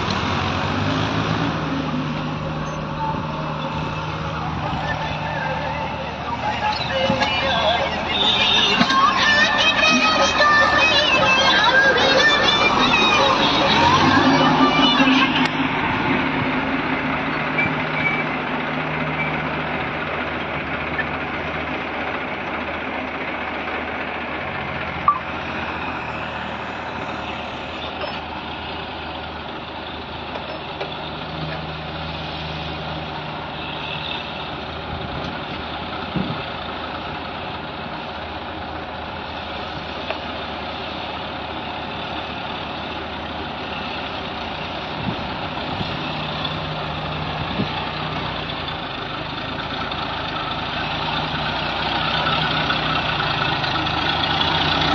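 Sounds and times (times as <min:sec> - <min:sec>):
diesel engines running: 0:00.0 - 0:54.9.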